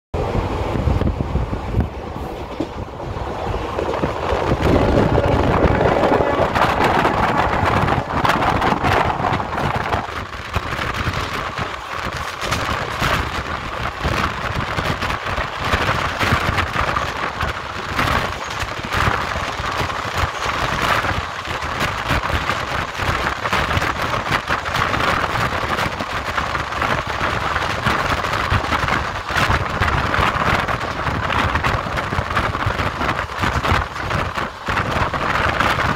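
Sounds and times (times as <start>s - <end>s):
train wheels rumbling on rails: 0.1s - 35.9s
wind buffeting microphone: 0.1s - 35.9s.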